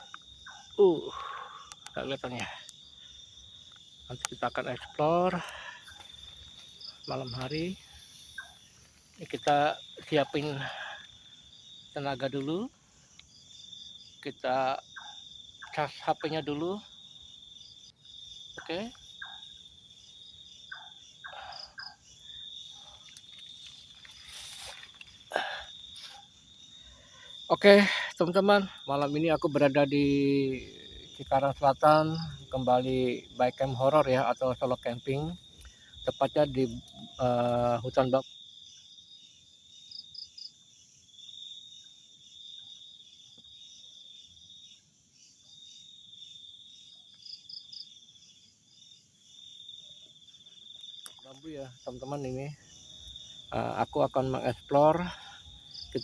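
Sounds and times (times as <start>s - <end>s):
insect pulsing trill: 0.0s - 56.0s.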